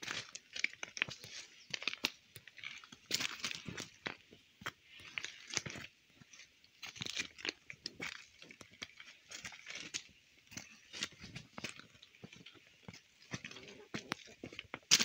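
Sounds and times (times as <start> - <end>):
footsteps crunching on gravel: 0.0 - 15.0.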